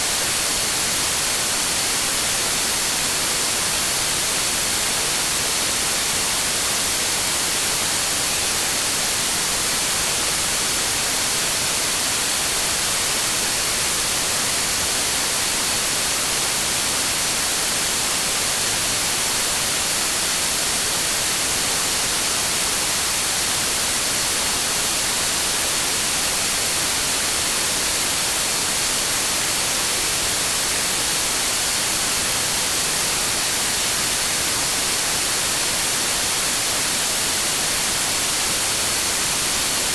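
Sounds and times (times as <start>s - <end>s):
steady green noise hiss: 0.0s - 39.9s.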